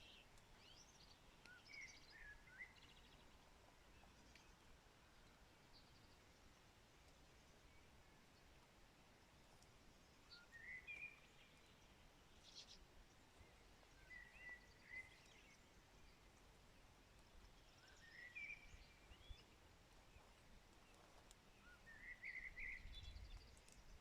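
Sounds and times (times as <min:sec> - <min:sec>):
faint birdsong: 0:00.0 - 0:24.0
light rain hiss: 0:00.0 - 0:24.0.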